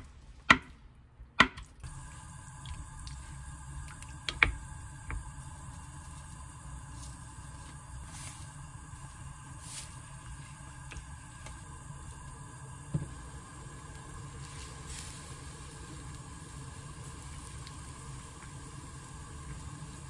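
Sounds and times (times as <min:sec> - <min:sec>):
stew cooking with low rumble: 0:00.0 - 0:20.0.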